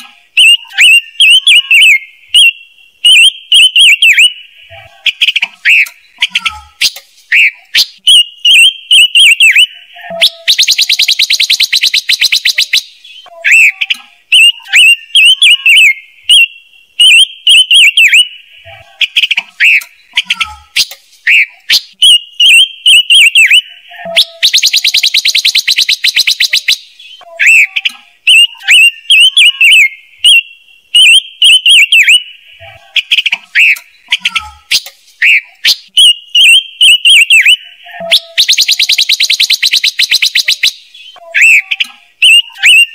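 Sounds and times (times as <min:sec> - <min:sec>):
high squeaky bird chirps: 0:00.0 - 0:42.9
fast buzzy bird trill: 0:00.4 - 0:42.9.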